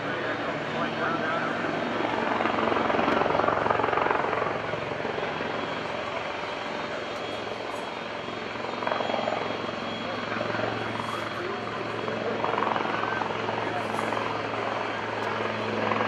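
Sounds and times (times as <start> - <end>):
helicopter rotor chop: 0.0 - 16.0.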